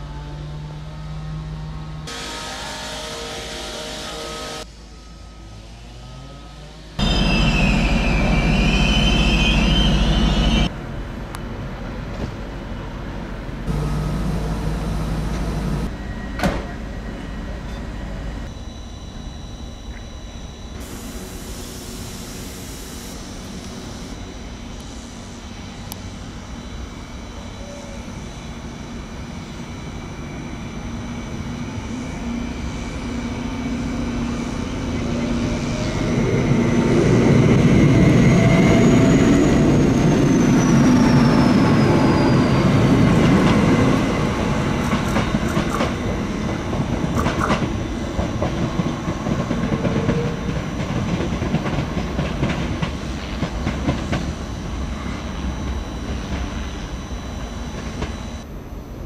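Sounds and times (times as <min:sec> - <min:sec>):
train motor whine: 0:00.0 - 0:10.7, 0:13.7 - 0:59.0
train passing close by: 0:00.0 - 0:59.0.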